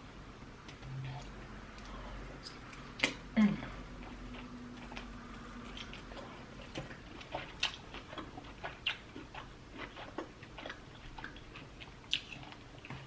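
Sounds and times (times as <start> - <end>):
person chewing with wet smacks: 0.6 - 13.0.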